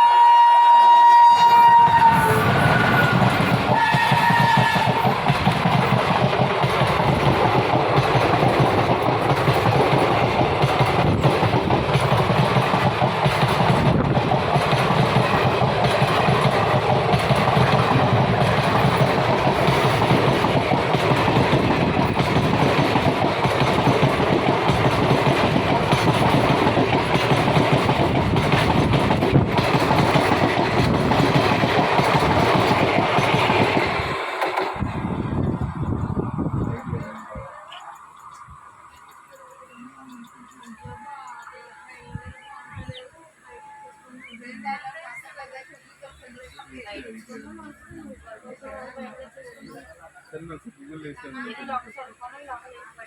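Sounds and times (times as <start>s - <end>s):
train rumbling on track: 0.0s - 49.9s.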